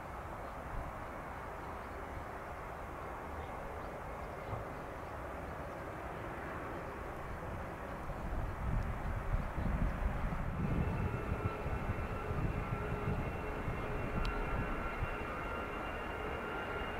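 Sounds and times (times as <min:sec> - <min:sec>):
jet engines running at low power: 0:00.1 - 0:16.9.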